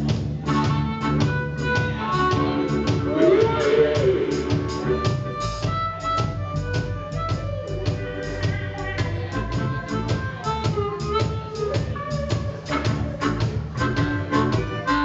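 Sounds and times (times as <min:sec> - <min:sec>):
blues harmonica: 0:00.0 - 0:15.0
drums and bass beat: 0:00.0 - 0:15.0
electric guitar: 0:00.0 - 0:15.0.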